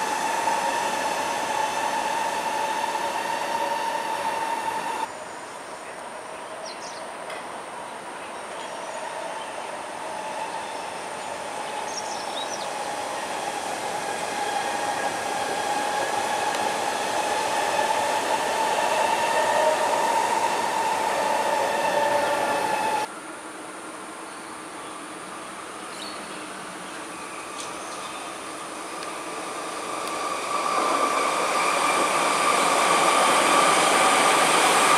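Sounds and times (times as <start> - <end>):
electric train passing: 0.0 - 6.3, 7.1 - 34.9.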